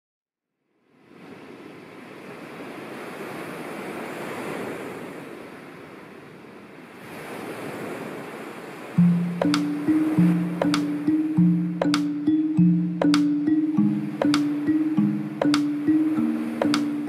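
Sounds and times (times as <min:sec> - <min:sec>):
small waves washing onto beach: 0:00.8 - 0:17.0.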